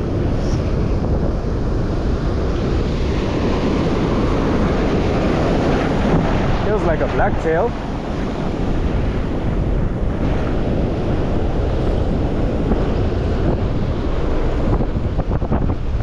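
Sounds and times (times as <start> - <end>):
wind buffeting microphone: 0.0 - 16.0
surf breaking on rocks: 2.3 - 16.0.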